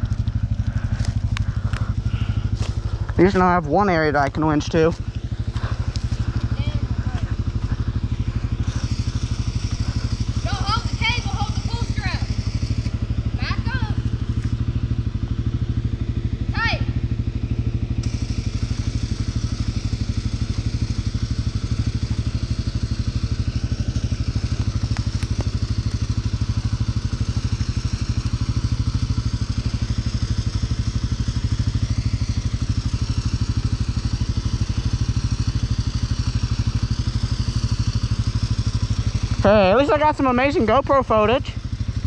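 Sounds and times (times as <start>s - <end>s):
atv engine idling: 0.0s - 42.0s.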